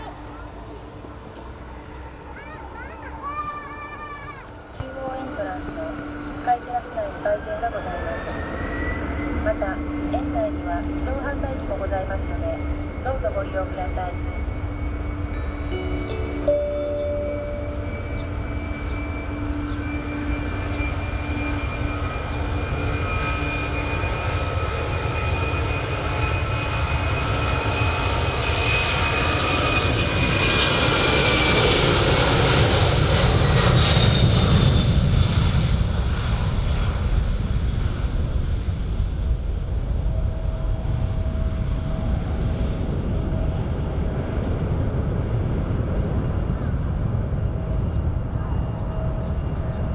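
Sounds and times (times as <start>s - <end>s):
airliner engines passing by: 0.0s - 49.9s.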